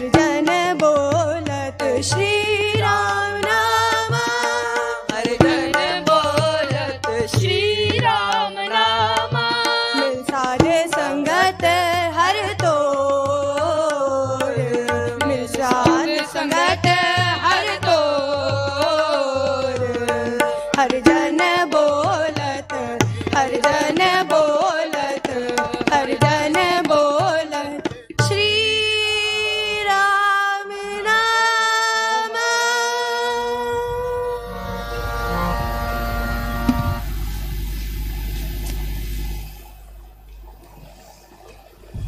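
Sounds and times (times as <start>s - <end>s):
tabla strokes: 0.0s - 29.0s, 33.5s - 42.0s
woman singing: 0.0s - 35.0s
harmonium: 0.0s - 39.6s.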